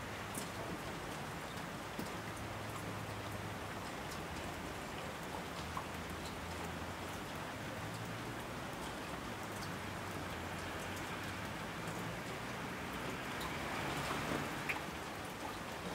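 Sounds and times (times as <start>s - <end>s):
steady rain patter: 0.0s - 15.9s.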